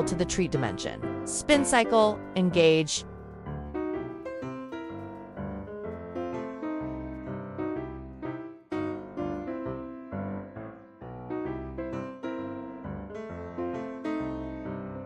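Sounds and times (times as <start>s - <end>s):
bouncy piano melody: 0.0s - 15.0s.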